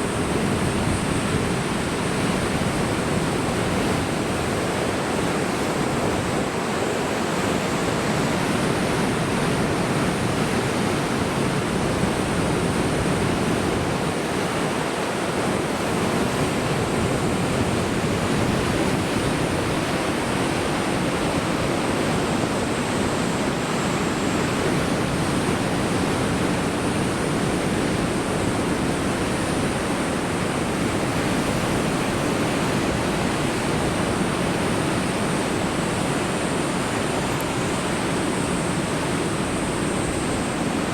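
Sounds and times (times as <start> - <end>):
surf breaking on coast: 0.0 - 40.9.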